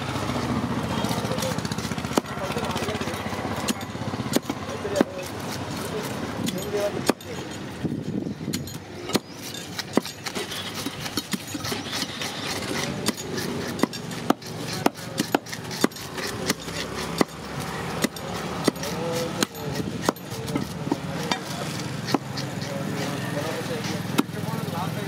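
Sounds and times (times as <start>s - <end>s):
metal blade scraping fish scales: 0.0s - 7.8s, 8.4s - 25.0s.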